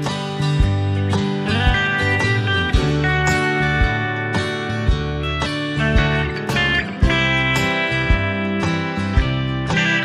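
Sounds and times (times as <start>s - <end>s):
guitar music over a beat: 0.0s - 10.0s.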